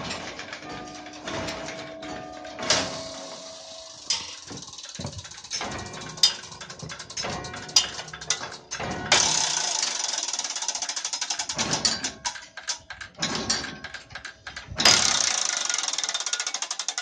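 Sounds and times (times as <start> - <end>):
clock mechanism metallic knocks: 0.0 - 17.0
fast mechanical clatter: 0.0 - 17.0
gear train clatter: 0.0 - 17.0.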